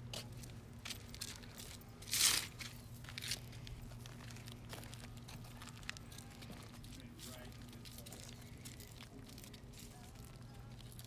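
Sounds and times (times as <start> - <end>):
flip-flop footsteps on gravel: 0.0 - 11.0.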